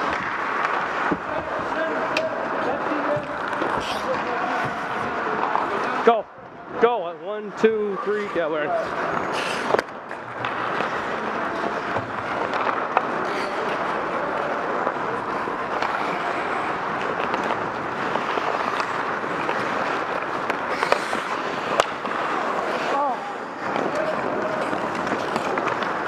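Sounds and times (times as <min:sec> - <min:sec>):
skate blades scraping ice: 0:00.0 - 0:06.0, 0:08.2 - 0:26.0.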